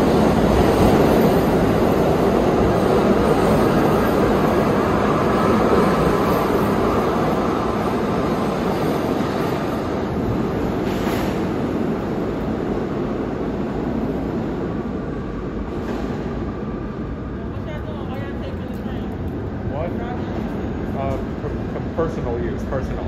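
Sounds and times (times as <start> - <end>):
subway train wheels rumbling: 0.0 - 23.0.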